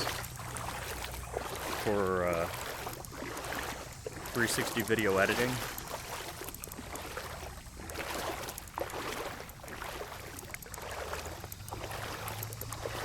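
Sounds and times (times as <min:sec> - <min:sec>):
wading through shallow water: 0:00.0 - 0:13.0.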